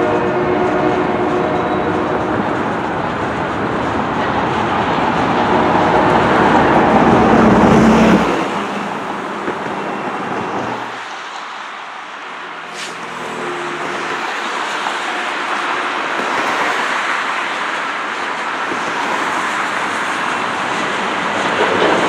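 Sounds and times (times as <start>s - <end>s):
freight train wheels rushing on rail: 0.0s - 22.0s.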